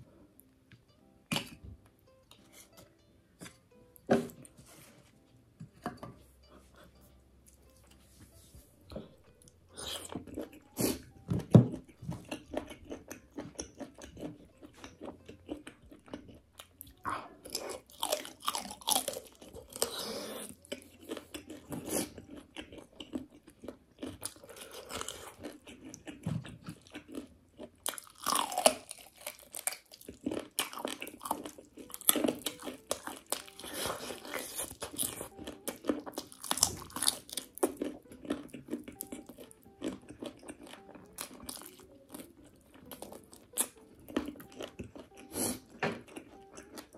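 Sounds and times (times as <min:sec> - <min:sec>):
chewing chicken: 0:08.9 - 0:46.9.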